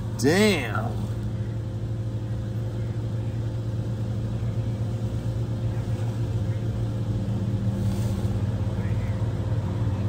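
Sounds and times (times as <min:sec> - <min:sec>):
idling vehicle engine hum: 0:00.0 - 0:10.0.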